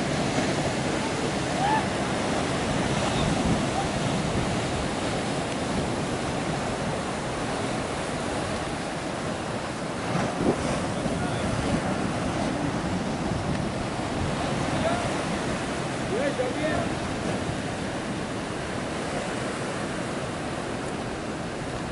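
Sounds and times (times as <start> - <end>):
ocean waves breaking: 0.0 - 21.9
wind on microphone: 0.0 - 21.9.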